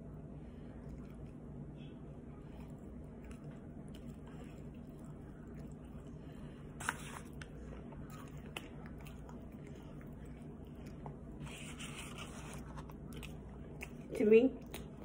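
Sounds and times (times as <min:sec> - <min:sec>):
low steady hum: 0:00.0 - 0:15.0
faint chewing of food: 0:00.1 - 0:15.0.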